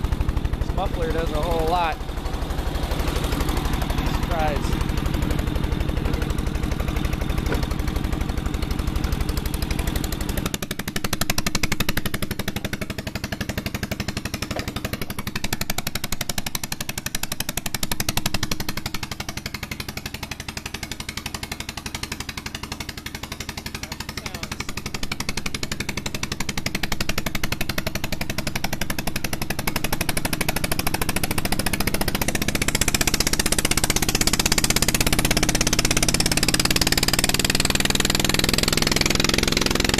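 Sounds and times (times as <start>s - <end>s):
engine knocking beat: 0.0s - 39.9s.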